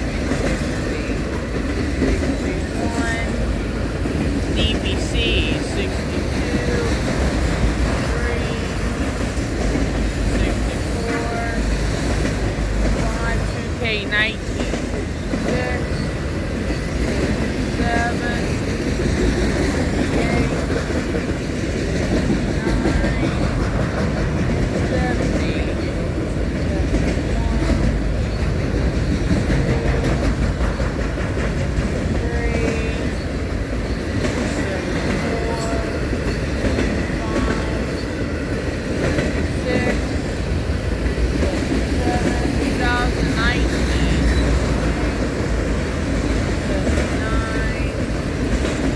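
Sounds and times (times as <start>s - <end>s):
clickety-clack over rail joints: 0.0s - 48.9s
freight train wheels rumbling: 0.0s - 48.9s.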